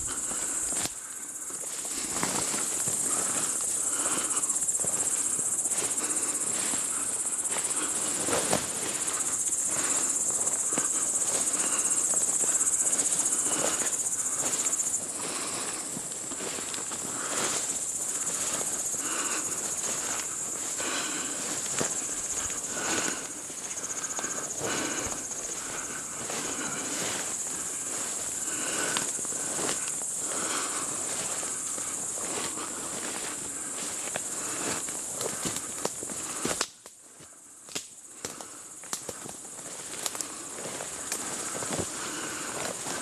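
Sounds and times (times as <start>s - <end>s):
footsteps through undergrowth: 0.0s - 37.4s, 38.2s - 43.0s
crickets chirring: 0.0s - 43.0s.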